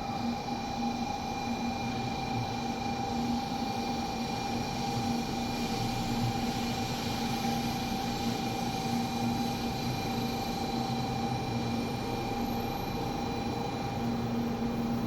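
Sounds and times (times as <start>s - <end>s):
train carriage hum and rush: 0.0s - 15.0s.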